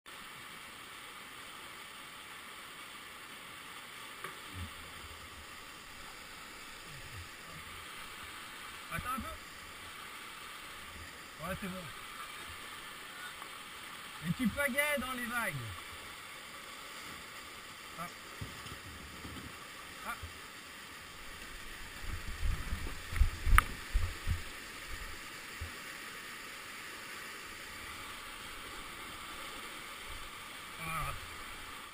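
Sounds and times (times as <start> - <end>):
whitewater rushing: 2.2 - 31.9.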